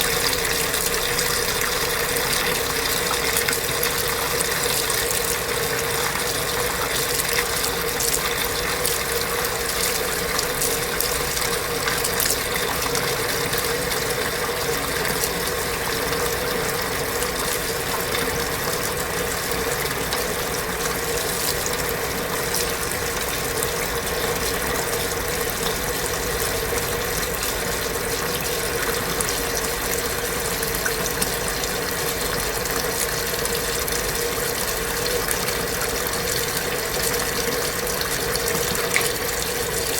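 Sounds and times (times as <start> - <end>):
washing machine motor hum: 0.0 - 39.9
water rushing: 0.0 - 39.9.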